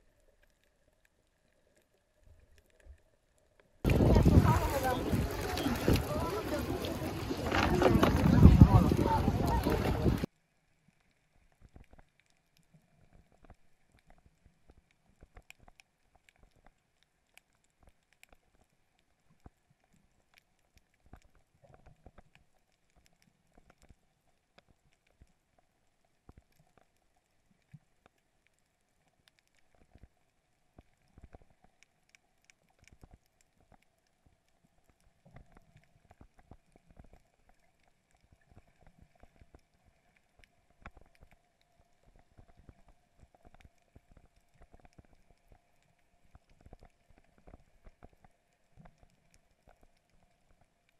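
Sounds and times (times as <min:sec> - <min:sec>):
underwater clicks and crackles: 0:00.0 - 0:50.9.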